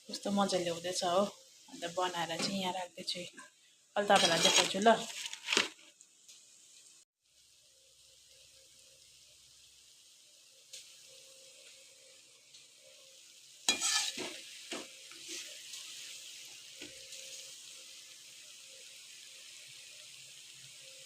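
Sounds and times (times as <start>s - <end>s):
dough sizzling in hot oil: 0.0s - 21.0s.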